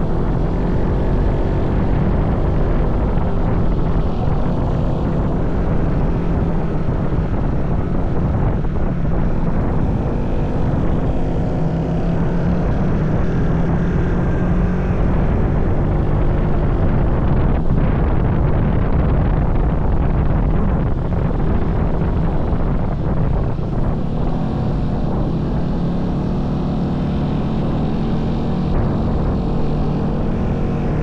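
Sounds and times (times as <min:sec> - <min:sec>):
continuous rushing noise: 0:00.0 - 0:31.0
vehicle engine droning: 0:00.0 - 0:31.0.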